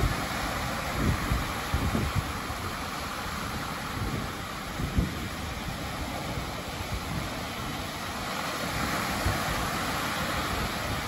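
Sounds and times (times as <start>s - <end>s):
waves washing up stony beach: 0.0s - 11.0s
wind buffeting microphone: 0.0s - 11.0s.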